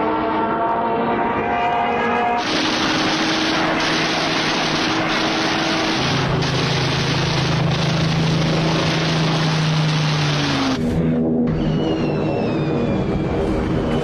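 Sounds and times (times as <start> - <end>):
engine-like drone: 0.0 - 14.0.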